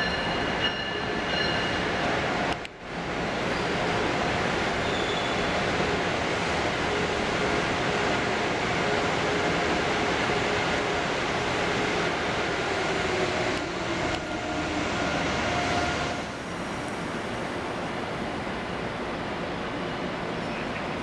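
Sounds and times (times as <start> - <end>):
train pulling in: 0.0 - 21.0.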